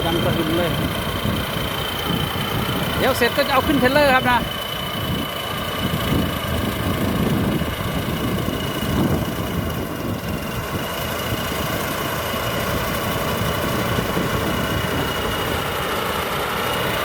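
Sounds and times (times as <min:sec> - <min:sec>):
high whine: 0:00.0 - 0:15.9
diesel engine running: 0:00.0 - 0:17.0.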